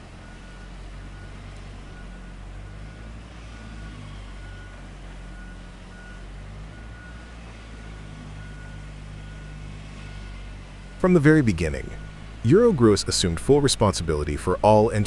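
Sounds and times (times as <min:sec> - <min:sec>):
diesel machinery humming: 0:00.0 - 0:15.0.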